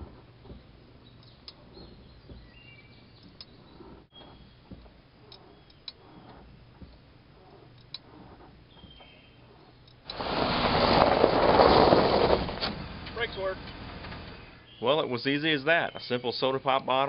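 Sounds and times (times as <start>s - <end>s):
truck tyres rolling over gravel: 0.0s - 14.4s.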